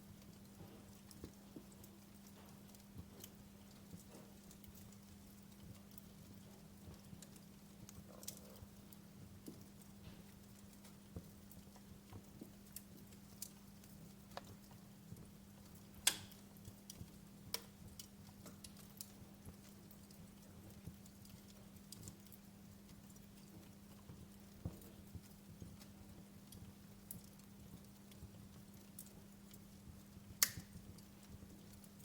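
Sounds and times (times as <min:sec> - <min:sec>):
faint low hum and hiss: 0:00.0 - 0:32.0
wood fire crackling: 0:00.0 - 0:32.0.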